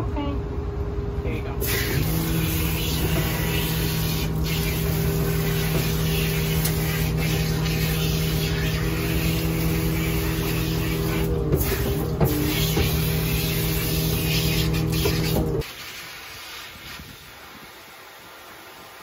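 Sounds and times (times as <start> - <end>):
water spraying from hose nozzle: 1.6 - 19.0.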